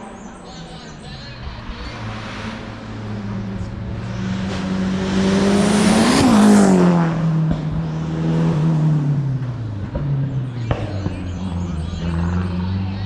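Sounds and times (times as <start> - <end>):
race car passing by: 1.0 - 13.0.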